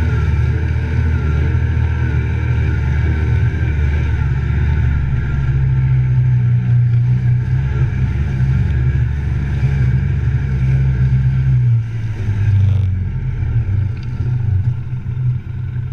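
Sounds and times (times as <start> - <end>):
vehicle engine running under load: 0.0 - 15.9.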